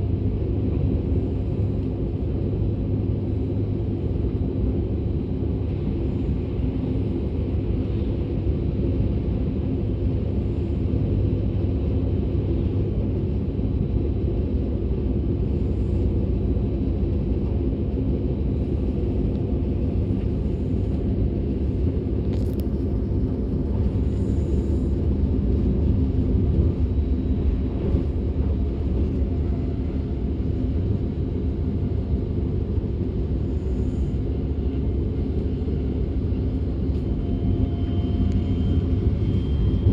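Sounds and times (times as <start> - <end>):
faint steady drone: 0.0 - 39.9
train wheels rumbling on track: 0.0 - 39.9.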